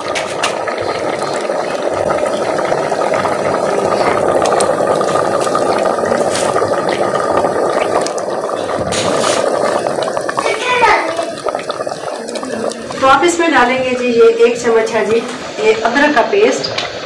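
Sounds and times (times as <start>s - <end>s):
chickpeas boiling in a pot: 0.0s - 17.0s.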